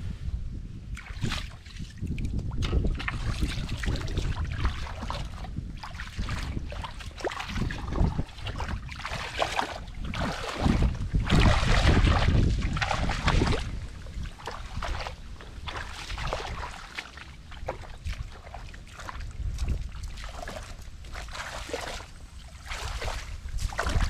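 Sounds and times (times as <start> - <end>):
wind rumble on microphone: 0.0 - 24.0
water and mud sloshing: 0.8 - 24.0.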